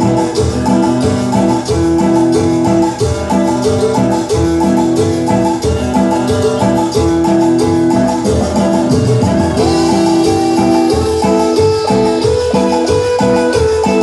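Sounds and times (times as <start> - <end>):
latin dance music: 0.0 - 14.0.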